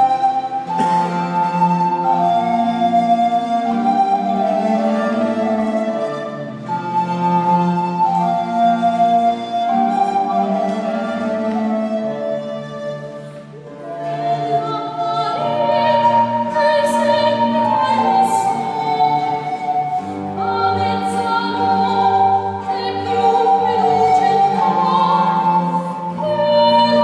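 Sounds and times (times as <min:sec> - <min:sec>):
lute: 0:00.0 - 0:27.0
soprano singing: 0:00.0 - 0:27.0
viola da gamba: 0:00.0 - 0:27.0.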